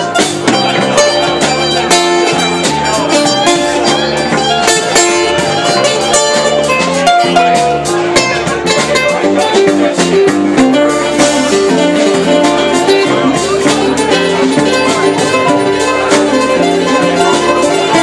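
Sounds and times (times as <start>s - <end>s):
bass notes: 0.0s - 18.0s
drum kit: 0.0s - 18.0s
guitar: 0.0s - 18.0s.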